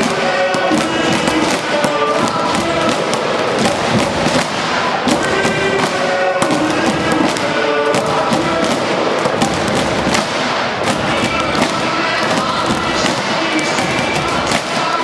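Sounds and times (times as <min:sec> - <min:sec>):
murmur of voices: 0:00.0 - 0:15.0
pitched sounds: 0:00.0 - 0:15.0
spectators clapping and banging: 0:00.0 - 0:15.0.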